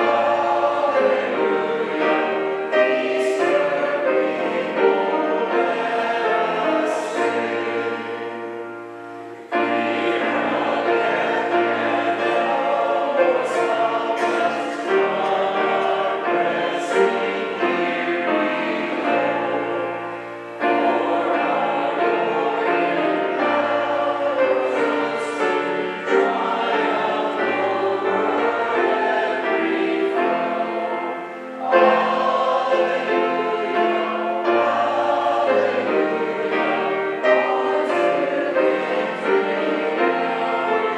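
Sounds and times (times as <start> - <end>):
congregation singing a hymn: 0.0 - 40.9
piano accompaniment: 0.0 - 40.9.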